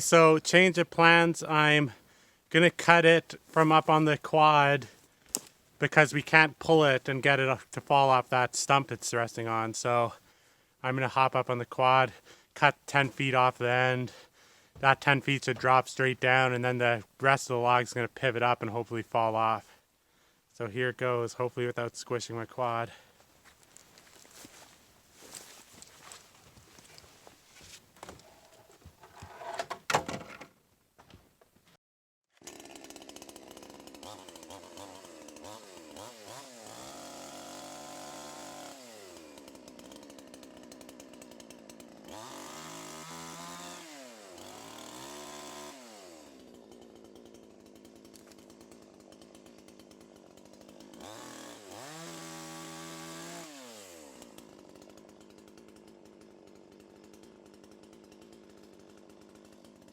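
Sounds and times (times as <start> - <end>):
chainsaw idling and revving: 0.1 - 19.8, 20.6 - 29.4, 32.3 - 59.9.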